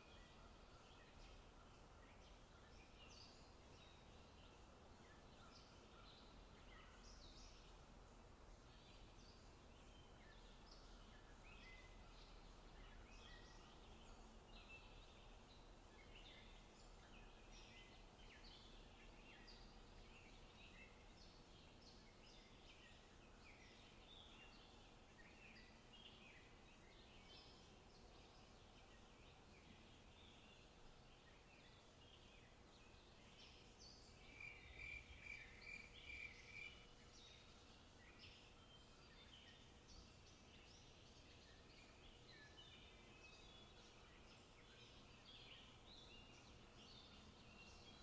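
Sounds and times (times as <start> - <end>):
low background hiss: 0.0 - 48.0.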